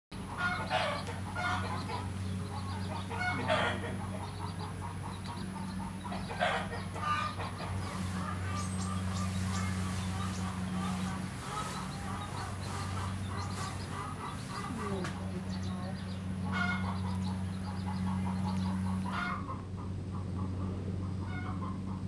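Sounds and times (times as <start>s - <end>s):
chickens clucking: 0.2s - 22.0s
steady low hum: 0.2s - 22.0s.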